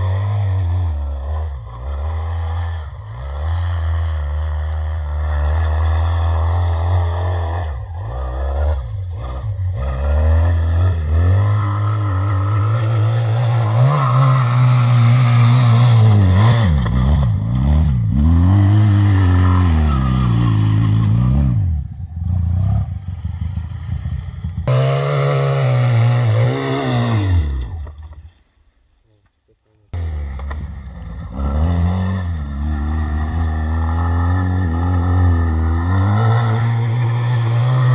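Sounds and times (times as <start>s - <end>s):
atv engine revving: 0.0s - 28.3s, 29.9s - 37.9s.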